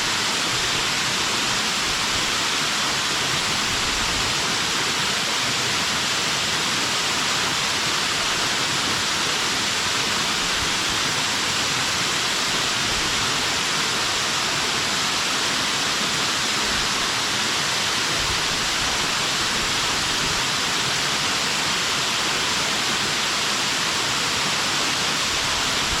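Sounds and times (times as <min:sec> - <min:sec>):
water pouring over a dam: 0:00.0 - 0:26.0.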